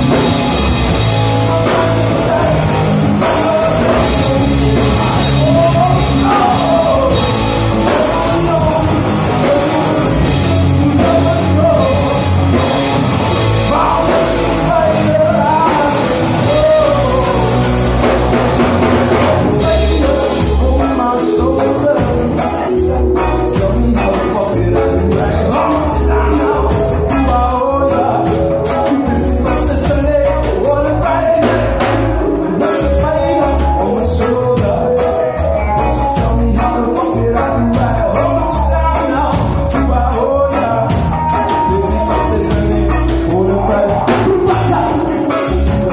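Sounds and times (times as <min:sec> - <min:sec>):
drum kit: 0:00.0 - 0:45.9
electric guitars: 0:00.0 - 0:45.9
wavering melodic lead line: 0:00.0 - 0:45.9.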